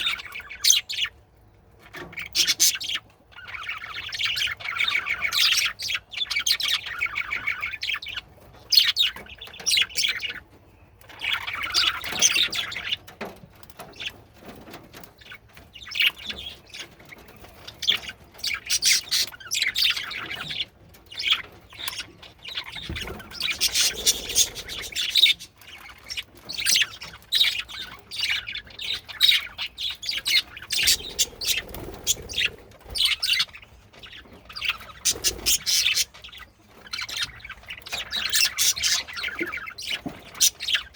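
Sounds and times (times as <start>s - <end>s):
budgerigars chattering and warbling: 0.0s - 1.2s, 1.8s - 40.9s.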